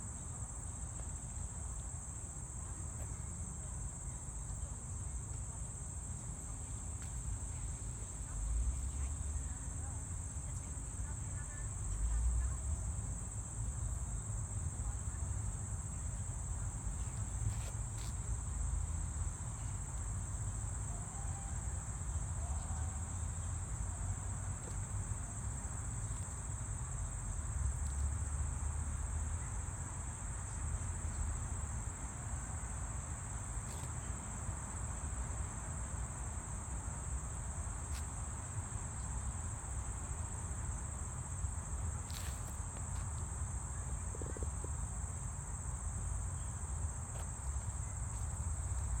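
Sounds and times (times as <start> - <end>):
high-pitched insect chorus: 0.1 - 49.0.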